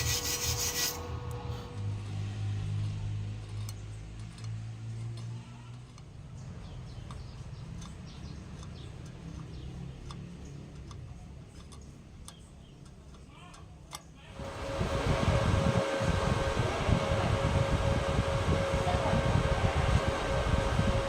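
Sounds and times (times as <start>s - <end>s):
steady low hum: 0.0s - 13.2s, 13.8s - 21.0s.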